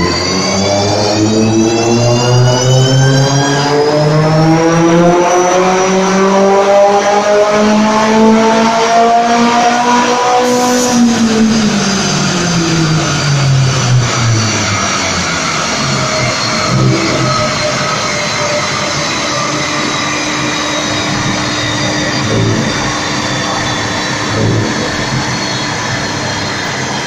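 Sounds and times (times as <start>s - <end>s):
turbocharged car engine revving: 0.0s - 27.0s.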